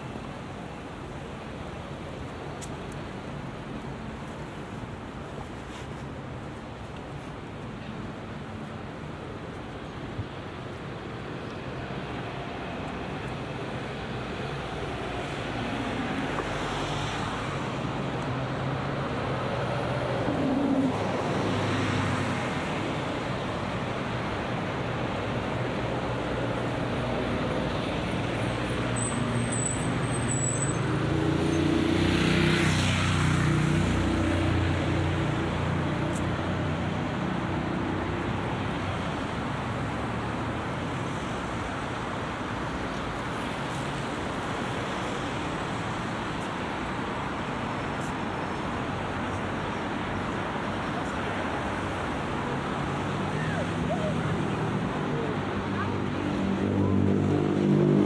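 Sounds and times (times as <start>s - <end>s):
city road traffic: 0.0s - 58.0s.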